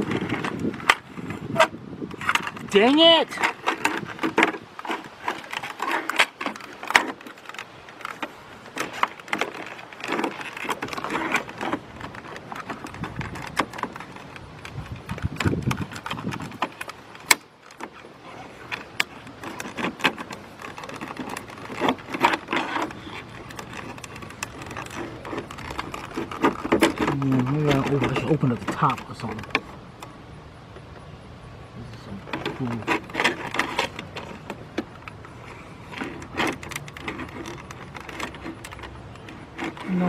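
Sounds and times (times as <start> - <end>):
plastic clicks and rattles: 0.0 - 2.8, 3.4 - 30.2, 32.2 - 40.0.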